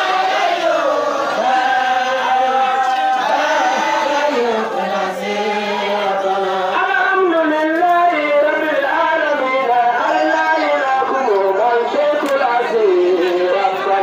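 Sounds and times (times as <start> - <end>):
group chanting devotional song: 0.0 - 14.0.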